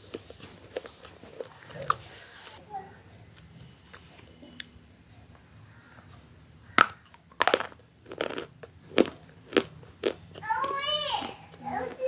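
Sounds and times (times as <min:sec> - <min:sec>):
crunchy food being chewed: 0:00.0 - 0:04.9, 0:05.6 - 0:12.0.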